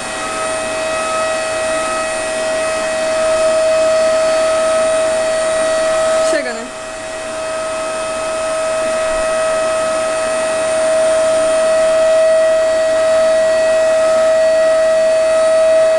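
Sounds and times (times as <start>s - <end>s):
vacuum cleaner motor whine: 0.0s - 15.9s.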